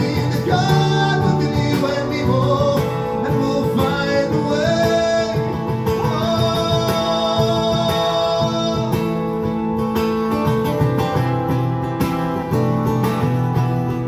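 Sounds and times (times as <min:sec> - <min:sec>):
guitar playing: 0:00.0 - 0:14.0.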